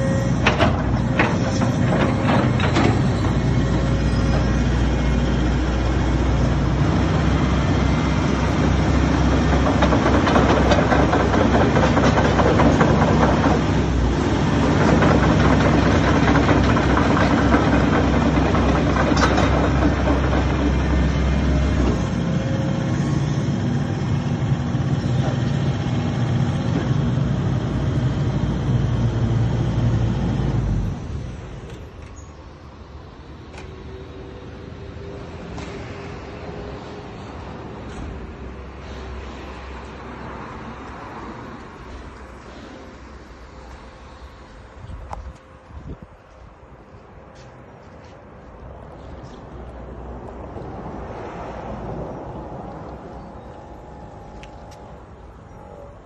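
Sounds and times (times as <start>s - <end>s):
excavator diesel engine running: 0.0s - 35.5s, 36.3s - 56.0s.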